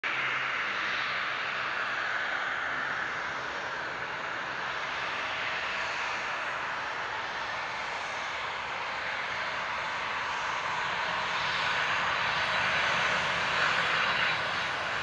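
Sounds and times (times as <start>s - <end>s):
jet engines whining: 0.1s - 15.0s.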